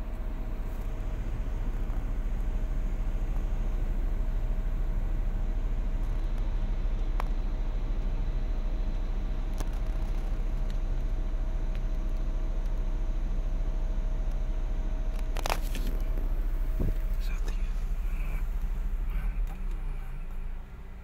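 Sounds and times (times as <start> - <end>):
car engine idling: 0.0 - 21.0
faint steady whine: 0.0 - 21.0.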